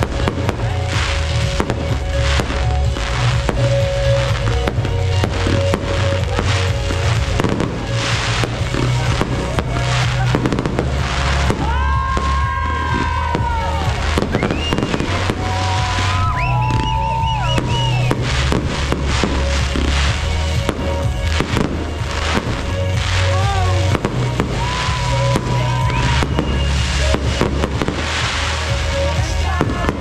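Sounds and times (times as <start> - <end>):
fireworks bangs: 0.0 - 30.0
music with heavy bass: 0.0 - 30.0.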